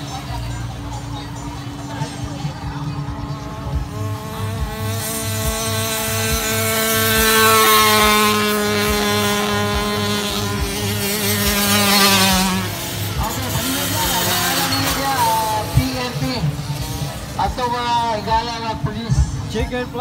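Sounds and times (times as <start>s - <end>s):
dirt bike engines buzzing: 0.0s - 20.0s.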